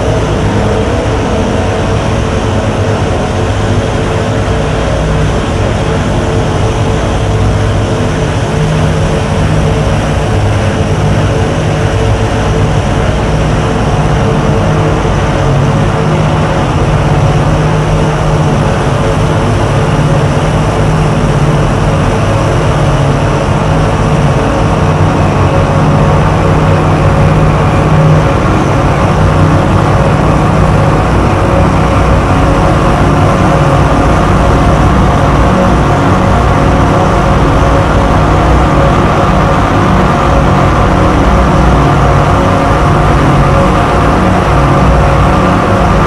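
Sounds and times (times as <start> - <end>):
steady low drones: 0.0 - 46.0.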